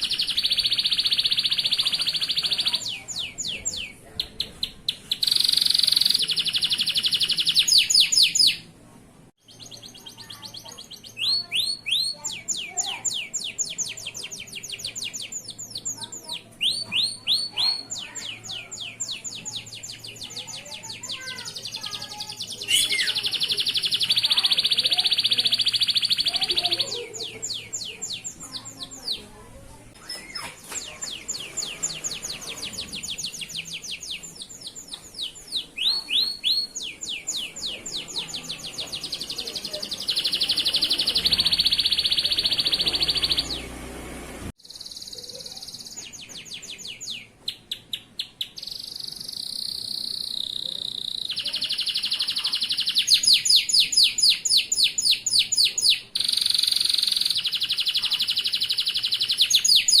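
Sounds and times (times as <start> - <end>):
canary singing in fast trills: 0.0 - 8.7, 9.4 - 60.0.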